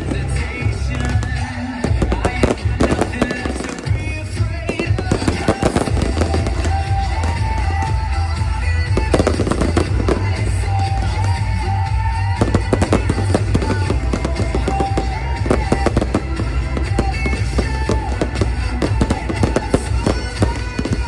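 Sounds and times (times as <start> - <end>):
fireworks crackling and popping: 0.0 - 21.0
loud music: 0.0 - 21.0.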